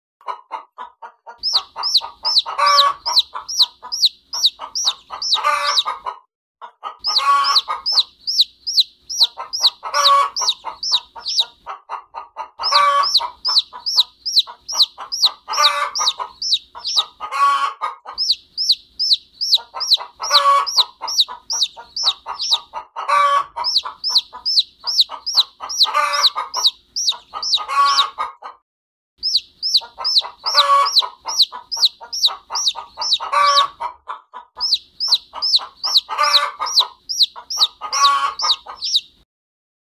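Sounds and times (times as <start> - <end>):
chick peeping: 0.2 - 28.6, 29.2 - 39.2
hen clucking: 0.2 - 28.6, 29.2 - 39.2.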